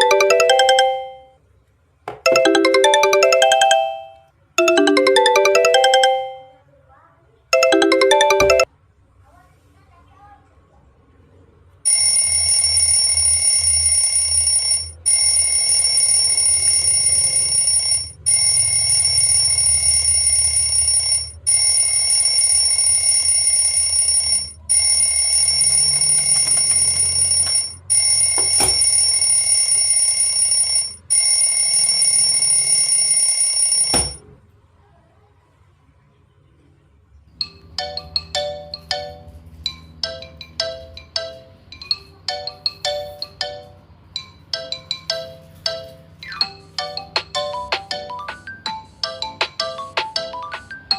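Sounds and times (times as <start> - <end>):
marimba phone ringtone: 0.0 - 1.4, 2.2 - 6.6, 7.6 - 8.7, 11.9 - 34.2, 37.4 - 50.9.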